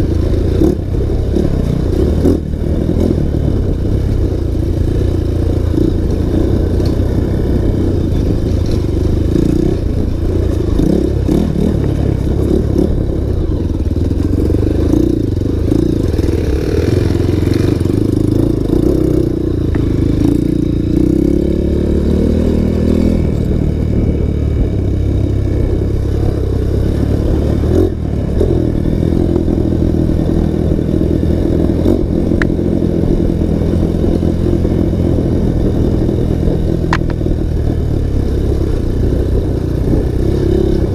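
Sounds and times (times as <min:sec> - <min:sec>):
motorcycle engine running hard: 0:00.0 - 0:40.9.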